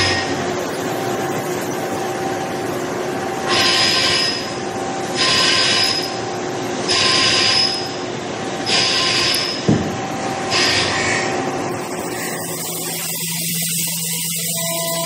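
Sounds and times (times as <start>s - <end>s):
high-pitched cutting whine: 0.0s - 15.0s
spindle hum: 0.0s - 15.0s.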